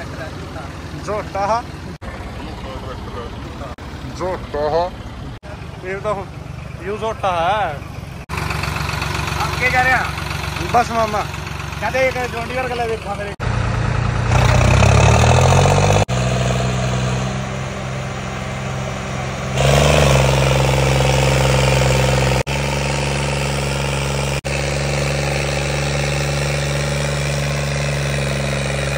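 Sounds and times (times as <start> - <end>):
tractor engines under load: 0.0 - 28.9.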